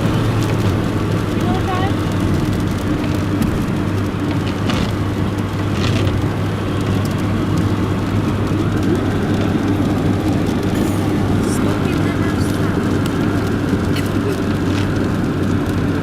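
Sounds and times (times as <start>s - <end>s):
car engine hum: 0.0s - 16.0s
tyre road noise: 0.0s - 16.0s.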